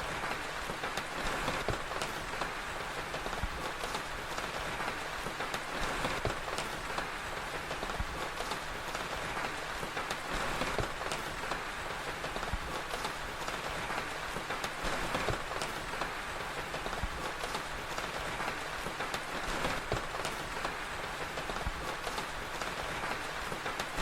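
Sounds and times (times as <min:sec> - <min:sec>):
steady rain hiss: 0:00.0 - 0:24.0
wood fire crackling: 0:00.0 - 0:24.0.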